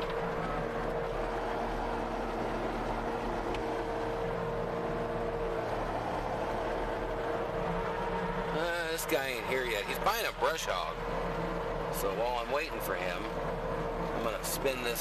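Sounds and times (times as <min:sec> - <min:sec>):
constant steady whine: 0:00.0 - 0:15.0
skid steer engine running: 0:00.0 - 0:15.0.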